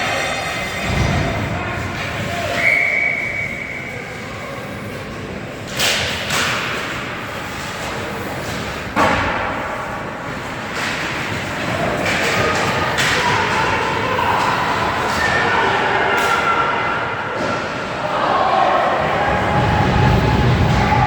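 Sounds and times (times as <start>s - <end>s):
arena background noise: 0.0s - 21.0s.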